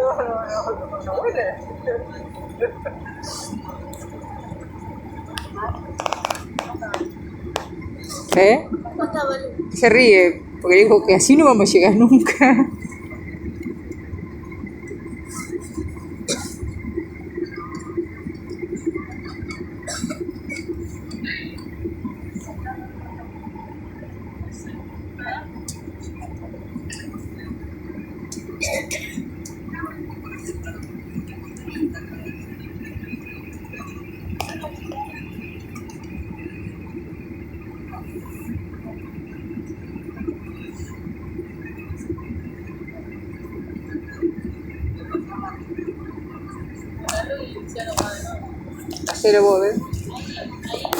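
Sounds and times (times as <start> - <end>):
airliner cabin rumble: 0.0 - 50.9
faint steady whine: 0.0 - 50.9.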